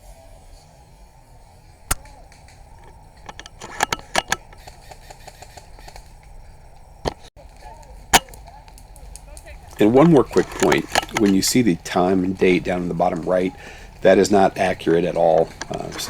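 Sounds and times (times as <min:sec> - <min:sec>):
low outdoor background: 0:00.0 - 0:16.0
airsoft guns firing: 0:01.7 - 0:16.0.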